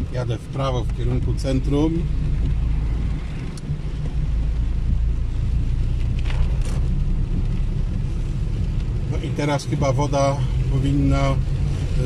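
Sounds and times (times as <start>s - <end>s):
engine and tyres on wet road: 0.0s - 12.0s.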